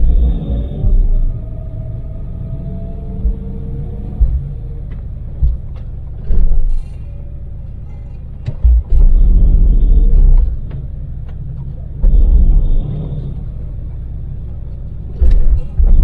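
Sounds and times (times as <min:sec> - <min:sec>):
deep rumble: 0:00.0 - 0:16.0
van engine and road noise: 0:00.0 - 0:16.0.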